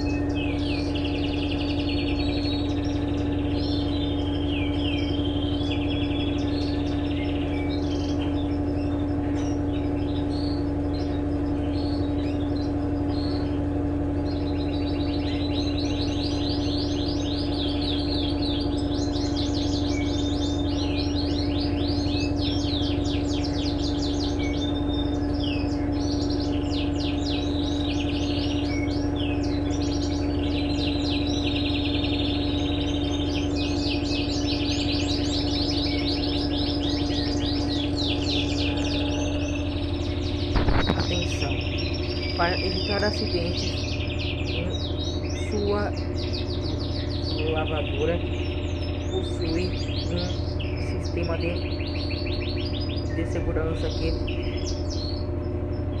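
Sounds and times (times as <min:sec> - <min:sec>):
birds chirping in trills: 0:00.0 - 0:56.0
washing machine motor hum: 0:00.0 - 0:56.0.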